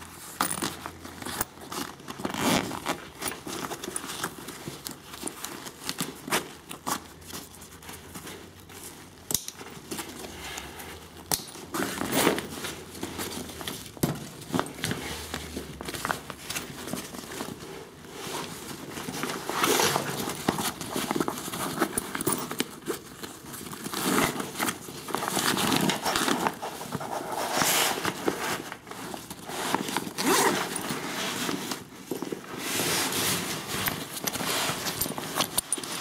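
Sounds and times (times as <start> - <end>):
backpack fabric rustling: 0.0 - 36.0.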